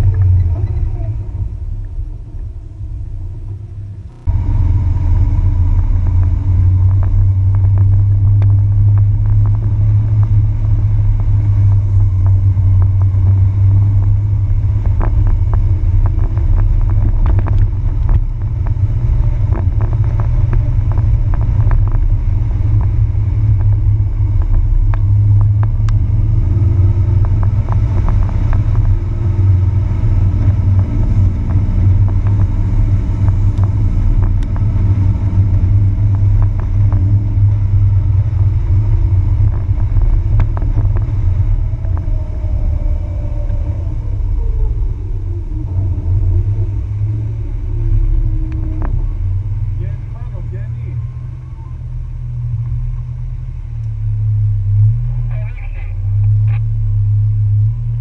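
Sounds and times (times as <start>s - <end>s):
vehicle low rumble: 0.0s - 58.0s.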